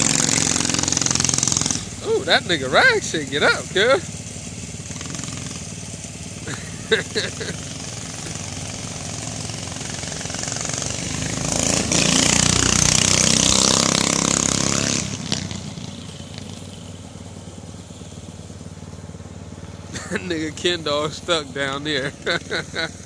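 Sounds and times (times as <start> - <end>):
small motorbike engine passing: 0.0 - 23.0.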